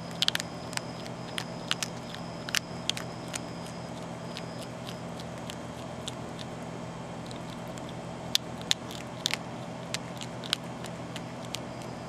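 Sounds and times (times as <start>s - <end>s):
animal crunching dry kibble: 0.0s - 12.0s
low hum: 0.0s - 12.0s.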